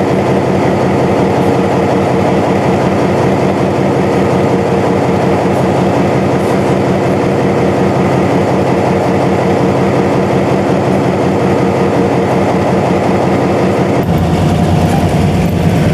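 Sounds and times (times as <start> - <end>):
locomotive diesel engine idling: 0.0 - 15.9.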